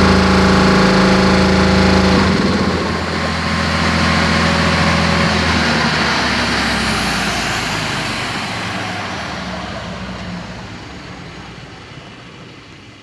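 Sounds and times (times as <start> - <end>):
air compressor running down: 0.0 - 12.6.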